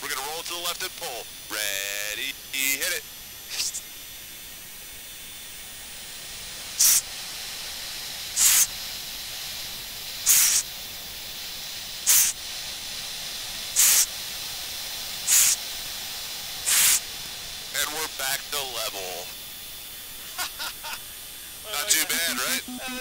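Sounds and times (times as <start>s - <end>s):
constant cockpit hiss: 0.0s - 23.0s.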